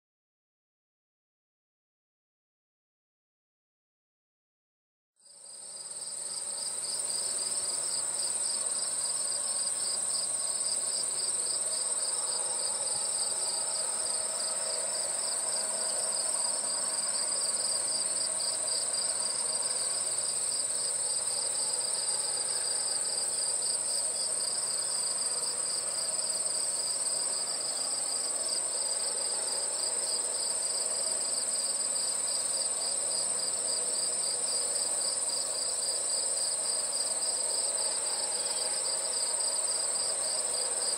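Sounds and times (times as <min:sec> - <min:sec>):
insects chirping: 0:05.5 - 0:40.9.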